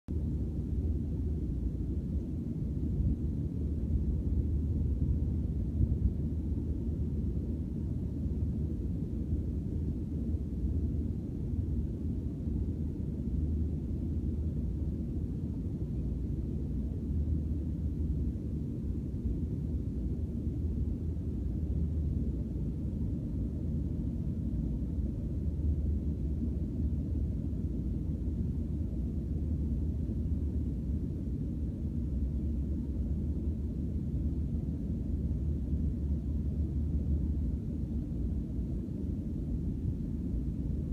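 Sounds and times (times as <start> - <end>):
low outdoor rumble: 0.1 - 40.9.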